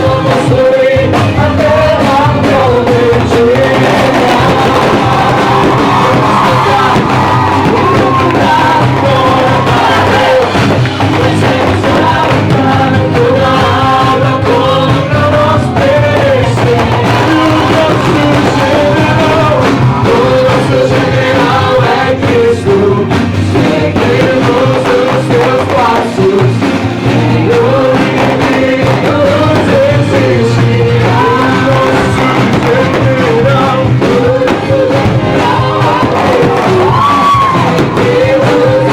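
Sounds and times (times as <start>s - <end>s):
group singing worship song: 0.0s - 38.9s
instrumental accompaniment: 0.0s - 38.9s.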